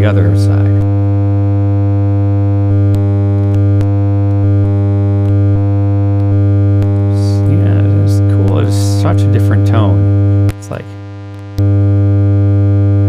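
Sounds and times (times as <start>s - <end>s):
buzzy distorted test tone: 0.0s - 13.0s.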